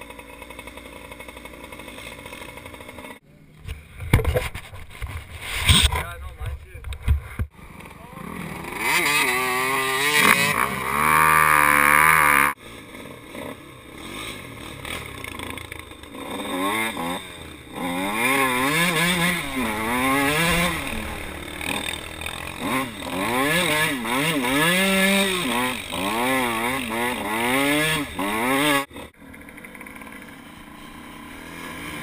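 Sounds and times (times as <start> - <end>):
dirt bike engine revving: 0.0 - 3.2, 7.2 - 32.0.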